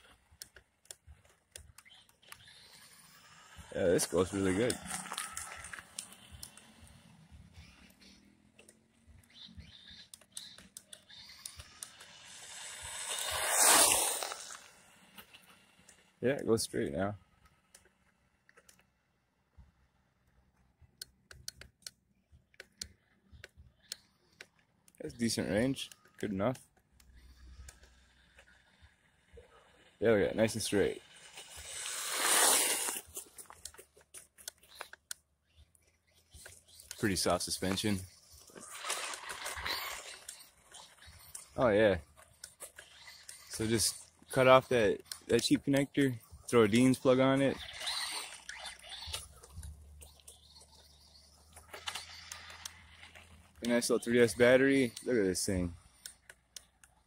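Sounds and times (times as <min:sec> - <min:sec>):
crackling clicks: 0:00.0 - 0:06.9, 0:07.6 - 0:16.1, 0:17.3 - 0:19.0, 0:20.2 - 0:29.4, 0:30.4 - 0:57.0
rc truck motor and tyres: 0:00.0 - 0:57.0.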